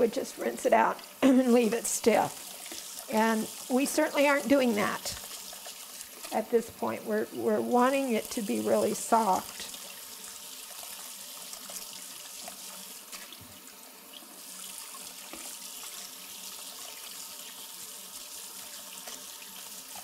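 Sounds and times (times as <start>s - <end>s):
faucet running into strainer: 0.0s - 20.0s.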